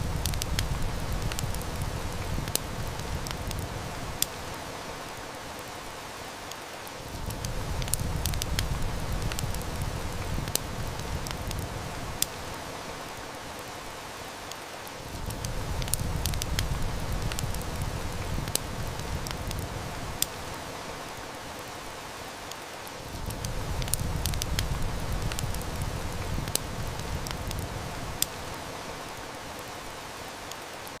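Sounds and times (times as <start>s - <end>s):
heavy rain hiss: 0.0s - 31.0s
wood fire crackling: 0.0s - 31.0s.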